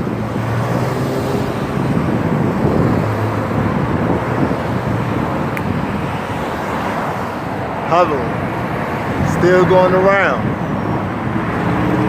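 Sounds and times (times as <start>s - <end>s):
vehicle rumble with road noise: 0.0s - 12.0s.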